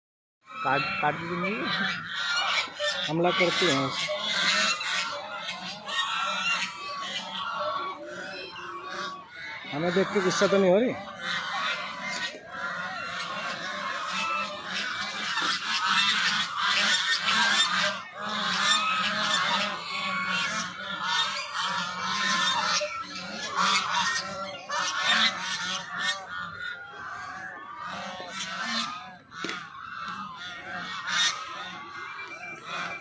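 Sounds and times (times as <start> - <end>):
geese honking: 0.5 - 33.0.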